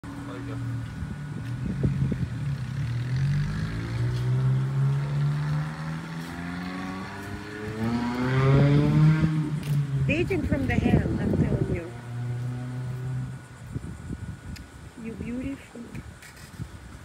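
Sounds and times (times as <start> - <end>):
vehicle engine accelerating: 0.0 - 13.9.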